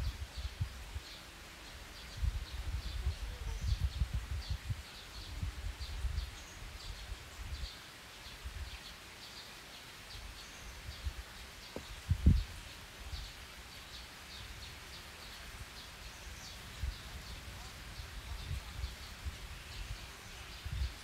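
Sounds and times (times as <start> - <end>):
wind rumbling on microphone: 0.0 - 8.9, 10.1 - 13.5, 14.3 - 21.0
bird chirping: 0.0 - 21.0.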